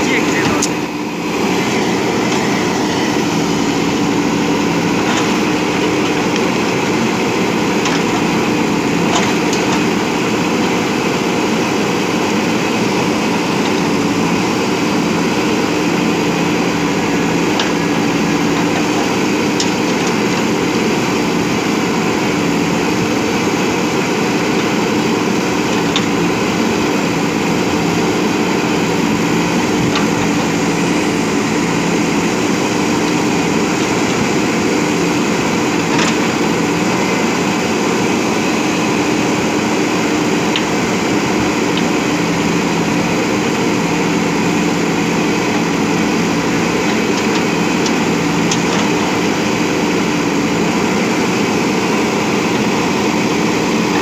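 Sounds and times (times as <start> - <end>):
diesel engine under load: 0.0 - 54.0.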